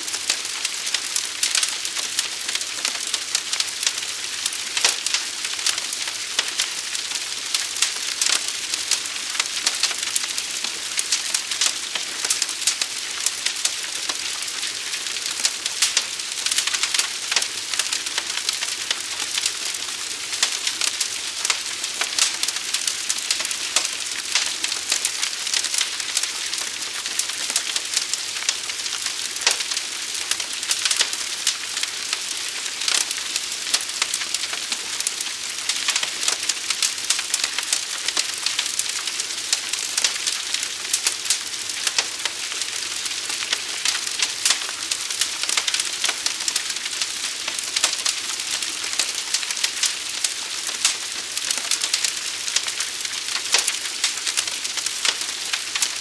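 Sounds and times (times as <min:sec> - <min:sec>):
large fire crackling: 0:00.0 - 0:56.0.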